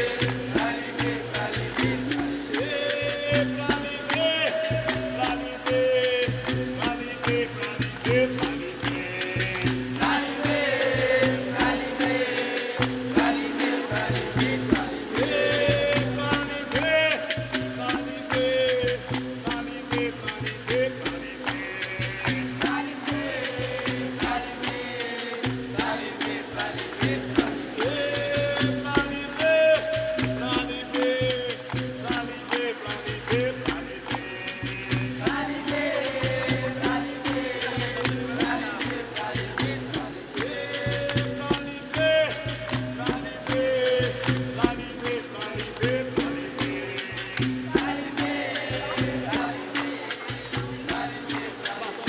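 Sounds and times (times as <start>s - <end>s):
berimbau: 0.0s - 52.0s
rattling percussion strikes: 0.0s - 52.0s
voices singing: 0.0s - 52.0s.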